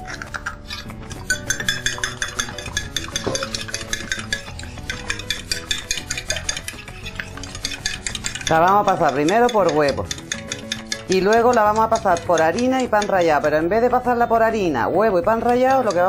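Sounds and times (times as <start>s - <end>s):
fork clicking against plate: 0.0s - 13.4s.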